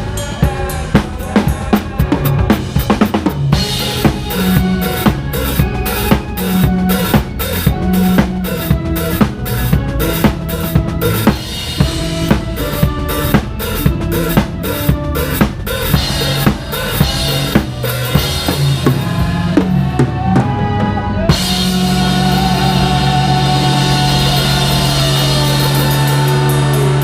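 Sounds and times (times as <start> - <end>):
drum kit beat: 0.0 - 27.0
live band playing: 0.0 - 27.0.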